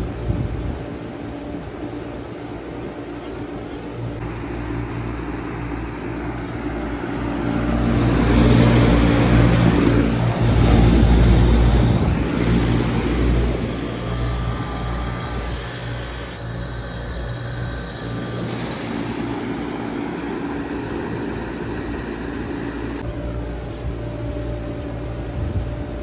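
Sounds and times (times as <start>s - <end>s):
fan moving air: 0.0s - 26.0s
heat pump compressor hum: 0.0s - 26.0s.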